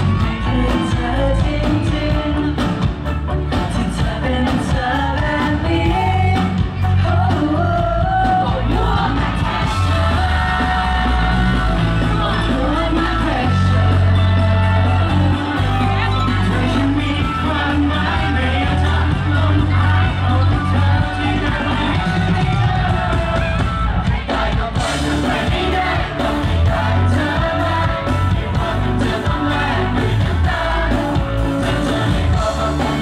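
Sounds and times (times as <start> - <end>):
audience yelling and shouting: 0.0 - 33.0
live pop music with singing: 0.0 - 33.0.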